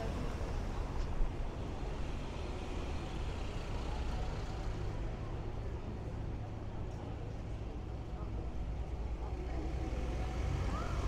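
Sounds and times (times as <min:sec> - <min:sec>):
low rumble of traffic: 0:00.0 - 0:11.0
street noise: 0:00.0 - 0:11.0.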